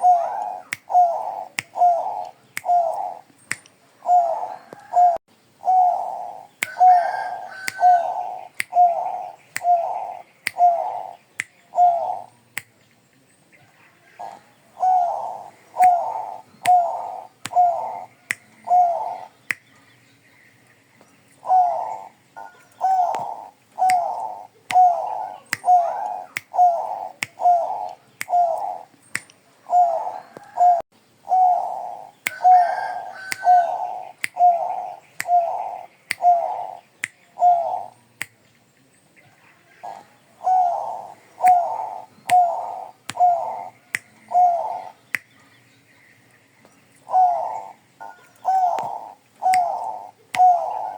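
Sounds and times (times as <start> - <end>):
dove cooing: 0.0 - 3.3, 3.9 - 12.3, 14.0 - 19.4, 21.4 - 28.9, 29.6 - 36.8, 37.4 - 38.0, 39.7 - 45.0, 47.0 - 50.9.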